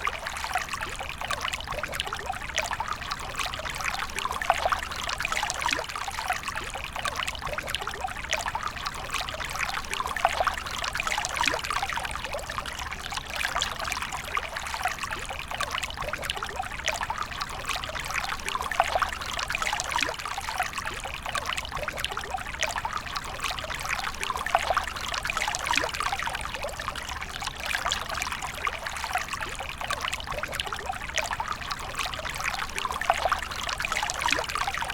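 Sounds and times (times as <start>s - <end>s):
water pouring and trickling: 0.0s - 34.9s.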